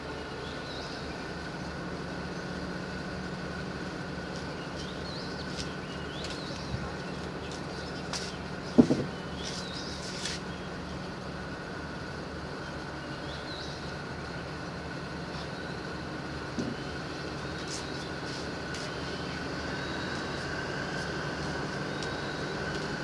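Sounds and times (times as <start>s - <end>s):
distant diesel locomotive humming: 0.0s - 23.0s
birds chirping: 0.2s - 23.0s.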